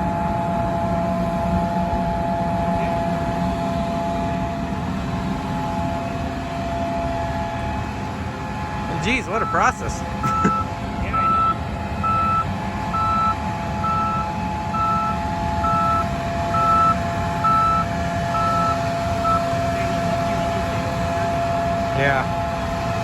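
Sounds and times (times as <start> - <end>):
farm machinery droning: 0.0 - 23.0
reversing alarm beeping: 0.0 - 23.0.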